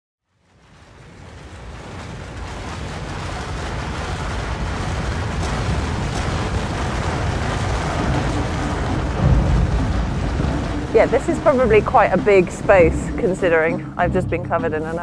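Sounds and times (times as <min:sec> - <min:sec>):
avalanche rumble: 0:00.3 - 0:15.0.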